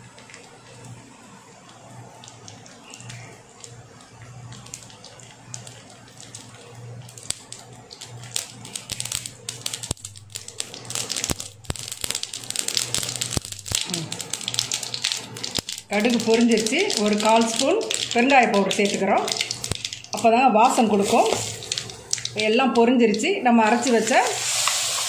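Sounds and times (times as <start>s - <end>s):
seeds sizzling and popping in oil: 0.0s - 25.0s.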